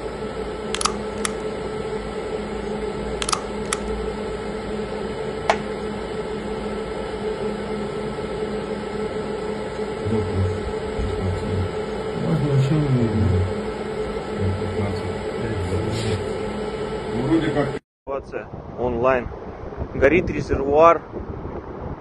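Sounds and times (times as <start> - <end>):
equipment hum and fan hiss: 0.0 - 22.0.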